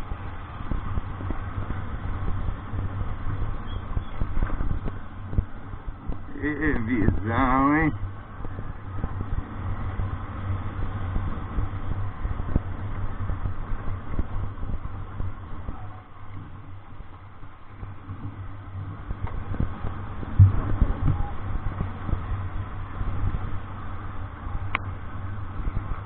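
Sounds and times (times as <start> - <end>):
vehicle rumble on rough road: 0.0 - 26.0.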